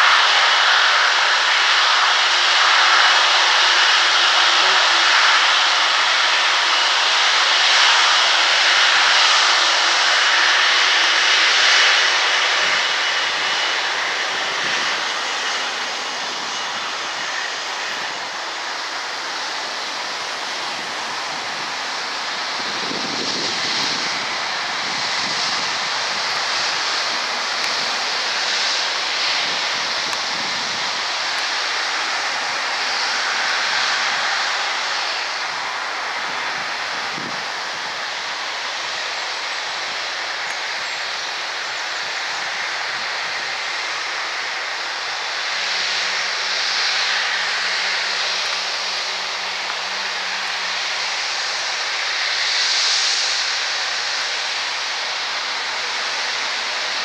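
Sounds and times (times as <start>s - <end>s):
jet engines hissing and whining: 0.0s - 57.0s.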